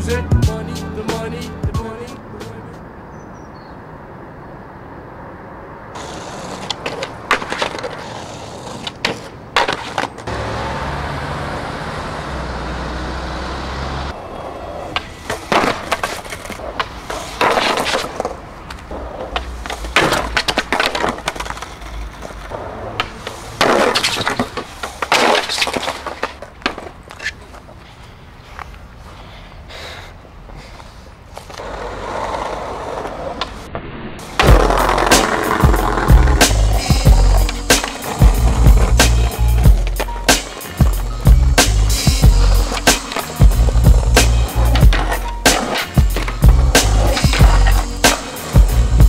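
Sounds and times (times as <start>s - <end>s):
skateboard wheels rolling on asphalt: 1.1s - 49.0s
skateboard clacking and scraping: 6.0s - 13.4s, 14.1s - 27.8s, 30.8s - 49.0s.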